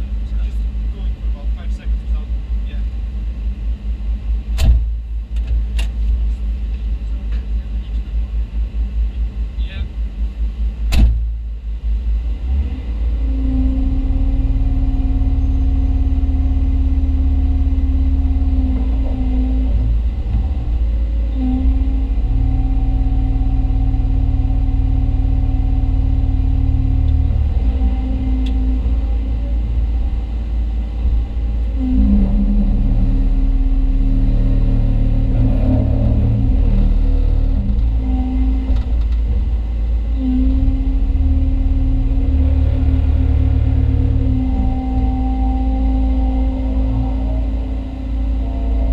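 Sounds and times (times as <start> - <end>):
excavator engine rumbling: 0.0 - 48.9
hydraulic hum: 0.0 - 48.9.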